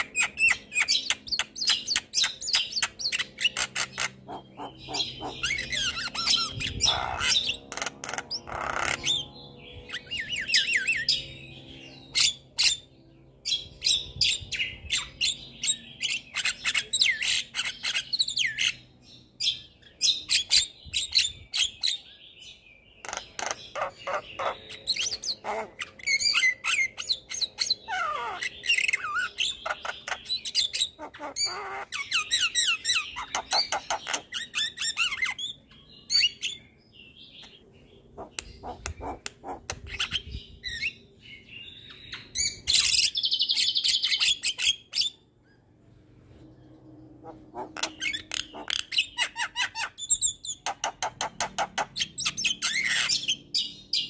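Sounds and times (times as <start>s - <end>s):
myna bird singing: 0.0s - 54.0s.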